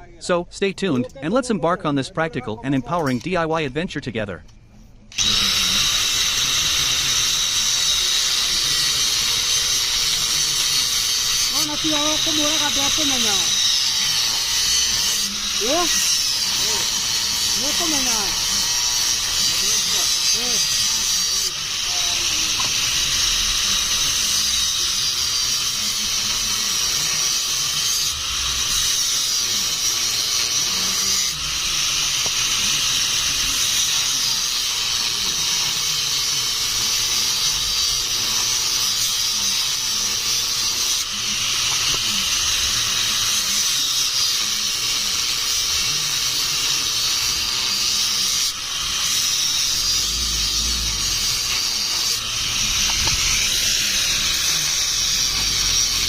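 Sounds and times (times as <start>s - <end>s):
loud hissing noise: 5.2s - 56.0s.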